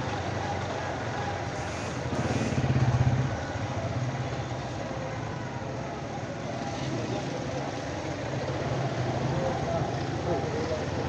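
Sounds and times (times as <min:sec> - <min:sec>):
street and road noise: 0:00.0 - 0:11.0.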